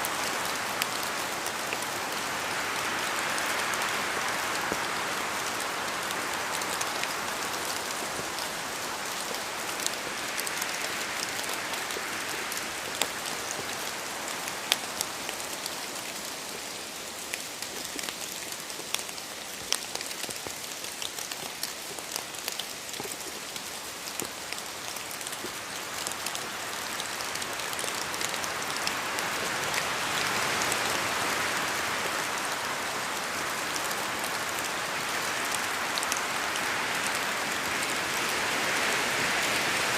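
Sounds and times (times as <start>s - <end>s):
steady rain in forest: 0.0s - 39.9s
wind rushing through trees: 0.0s - 39.9s.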